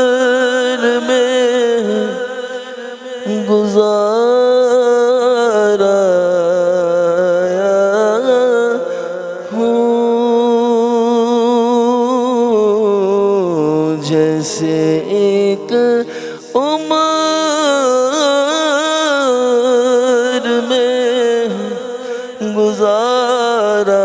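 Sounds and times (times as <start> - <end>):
man singing with vibrato: 0.0 - 24.0.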